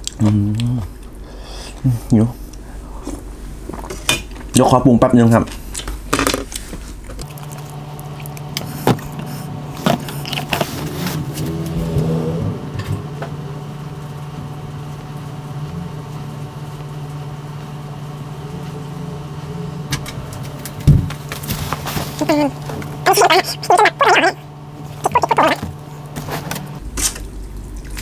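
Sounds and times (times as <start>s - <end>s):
low electric hum: 0.0s - 28.0s.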